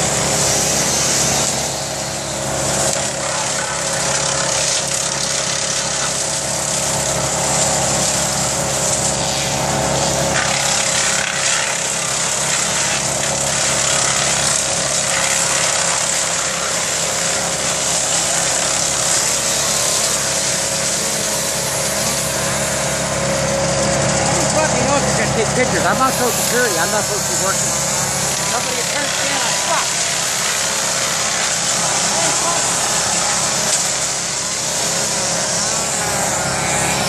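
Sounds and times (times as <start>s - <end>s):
small engine running steadily: 0.0s - 37.0s.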